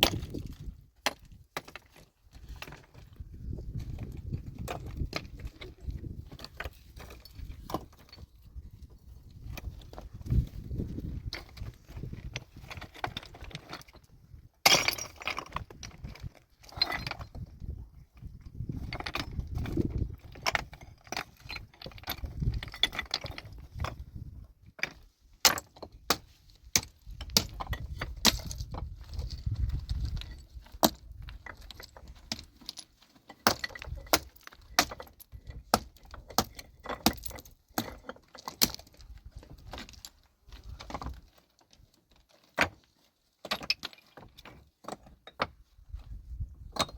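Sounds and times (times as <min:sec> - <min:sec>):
stones knocking and clattering: 0:00.0 - 0:46.9.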